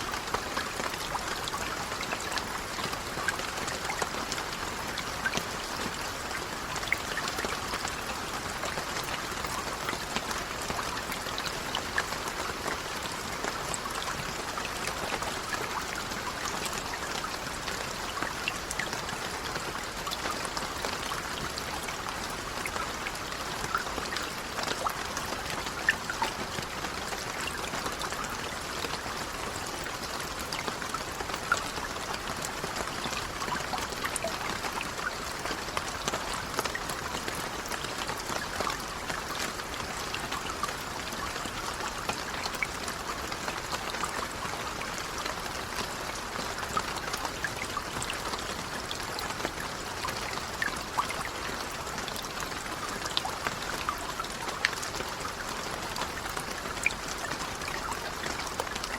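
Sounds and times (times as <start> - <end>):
light rain pattering: 0.0 - 58.9.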